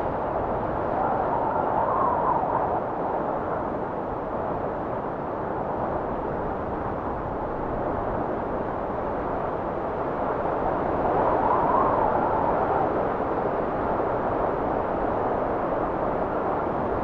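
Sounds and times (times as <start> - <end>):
blizzard wind blowing: 0.0 - 17.0.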